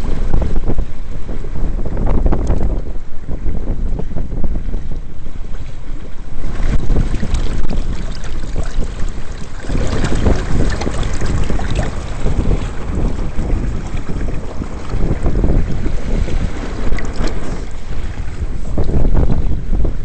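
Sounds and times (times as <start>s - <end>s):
water splashing against hull: 0.0s - 20.0s
wind buffeting microphone: 0.0s - 20.0s.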